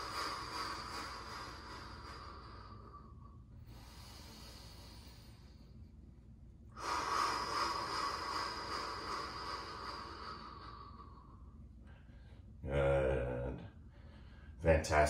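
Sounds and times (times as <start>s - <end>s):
man breathing: 0.0s - 14.6s.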